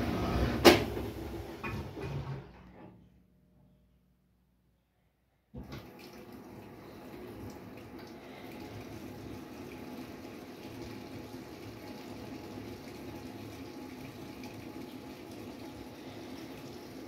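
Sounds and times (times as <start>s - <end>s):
water rushing into washing machine: 0.0s - 2.7s, 5.6s - 17.0s.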